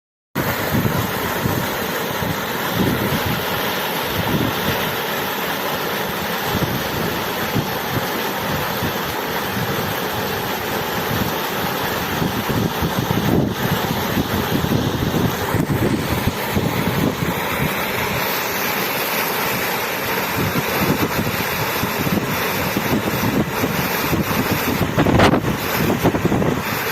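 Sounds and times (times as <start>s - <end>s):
low splashing and churning: 0.4s - 26.9s
water rushing: 0.4s - 26.9s.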